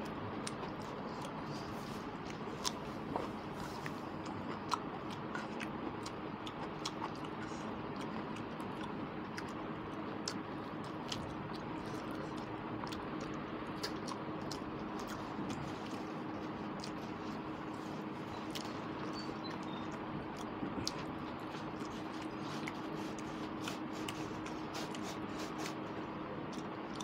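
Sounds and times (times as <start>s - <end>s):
chewing: 0.0s - 27.0s
faint hum: 0.0s - 27.0s.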